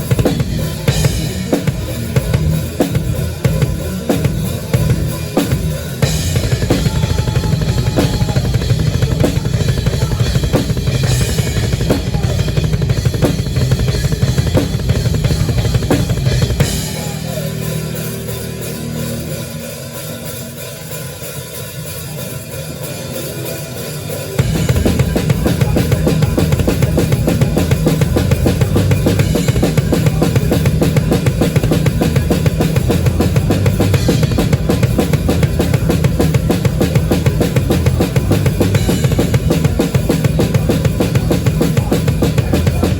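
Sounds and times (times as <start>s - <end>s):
band playing: 0.0s - 42.9s
heavy metal drum kit: 0.0s - 42.9s.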